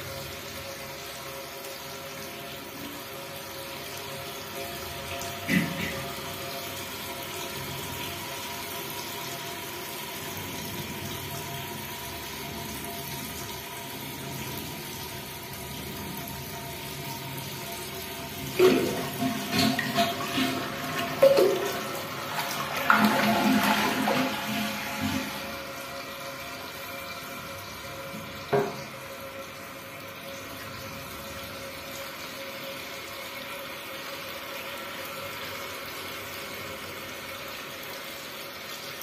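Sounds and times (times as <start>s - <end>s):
fill valve whine: 0.0s - 38.9s
water running into toilet tank: 0.0s - 39.0s.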